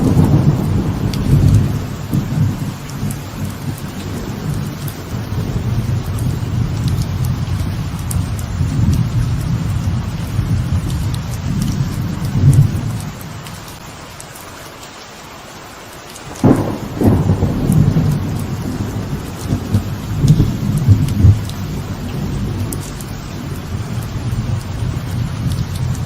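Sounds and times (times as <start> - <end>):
sharp thunderclap: 0.0 - 13.0, 16.3 - 26.0
thunder rumbling: 0.0 - 13.8, 16.3 - 26.0
light rain falling: 0.0 - 26.0.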